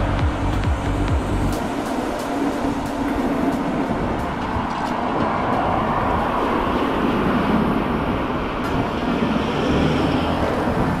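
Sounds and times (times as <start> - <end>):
scooter tyre noise: 0.0 - 11.0
wind rushing: 0.0 - 11.0.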